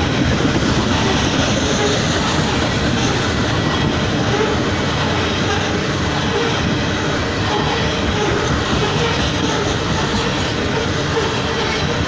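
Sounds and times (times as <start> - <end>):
freight cars rolling rattle: 0.0 - 12.0.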